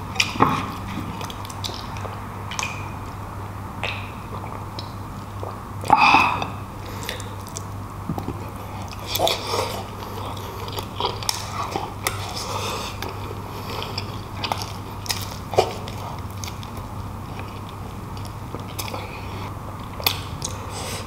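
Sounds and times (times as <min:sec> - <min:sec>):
man chewing wetly: 0:00.0 - 0:03.2, 0:03.8 - 0:21.0
steady low hum: 0:00.0 - 0:21.0.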